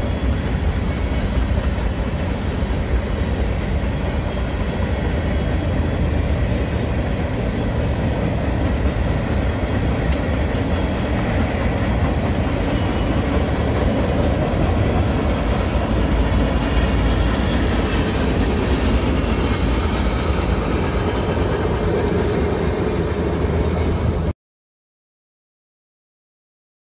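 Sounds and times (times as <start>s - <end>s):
freight train wheels rumbling: 0.0s - 24.3s.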